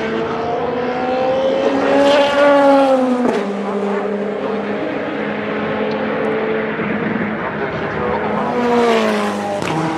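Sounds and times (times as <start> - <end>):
race car engine passing: 0.0 - 9.9.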